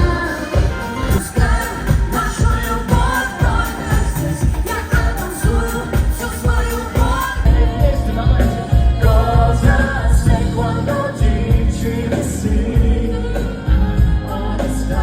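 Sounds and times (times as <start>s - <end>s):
live pop band: 0.0s - 15.0s
person singing: 0.0s - 15.0s.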